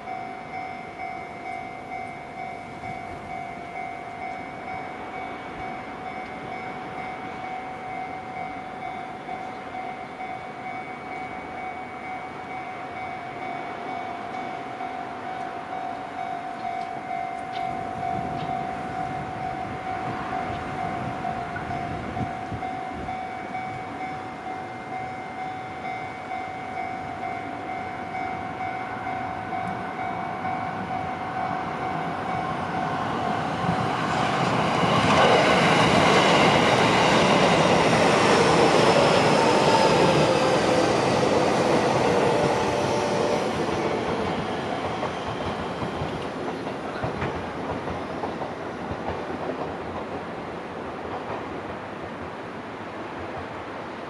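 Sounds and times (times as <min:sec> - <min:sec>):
level crossing warning bell: 0:00.0 - 0:47.2
train wheels on rails: 0:00.0 - 0:54.0.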